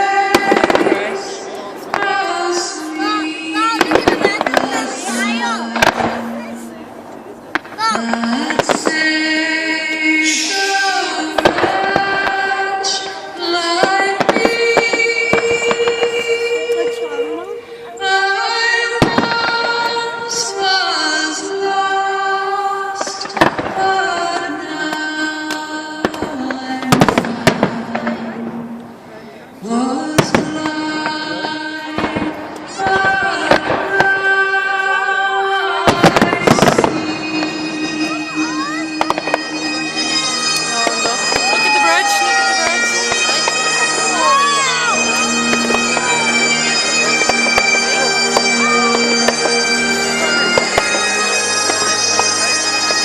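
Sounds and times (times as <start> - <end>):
fireworks bangs and crackles: 0.0 - 53.0
music with long sung notes: 0.0 - 53.0.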